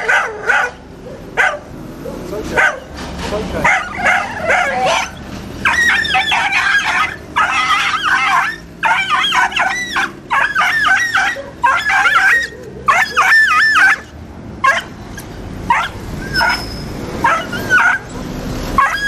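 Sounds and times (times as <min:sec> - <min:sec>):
dog yelping and screaming: 0:00.0 - 0:02.9, 0:03.6 - 0:18.1, 0:18.8 - 0:19.0.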